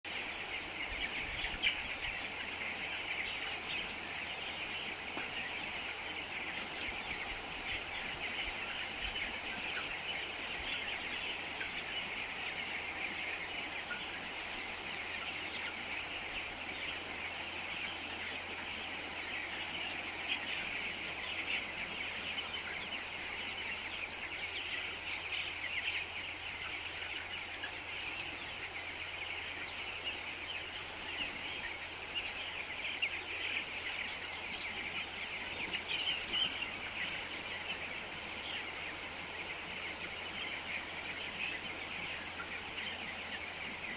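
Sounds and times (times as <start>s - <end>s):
chickens chirping and clucking: 0.0s - 43.9s.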